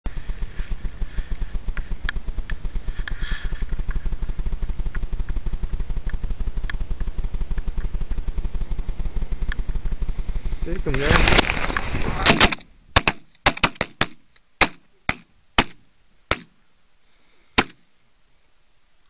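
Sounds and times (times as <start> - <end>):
engine running with low putter: 0.0 - 19.0.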